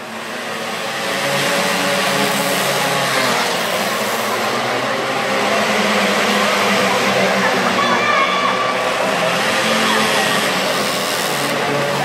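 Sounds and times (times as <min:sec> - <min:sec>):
small engines droning: 0:00.0 - 0:12.0.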